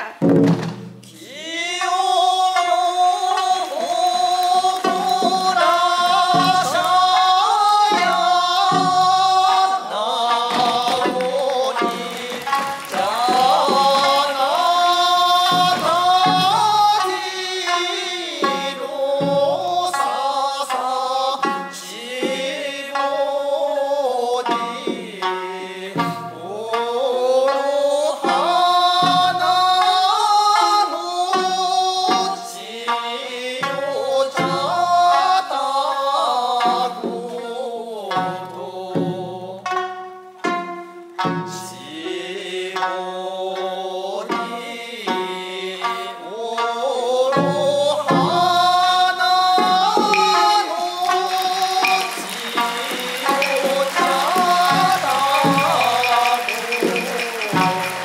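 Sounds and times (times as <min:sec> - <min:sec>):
person singing: 0:00.0 - 0:00.4, 0:01.0 - 0:58.0
plucked string instrument: 0:00.0 - 0:58.0.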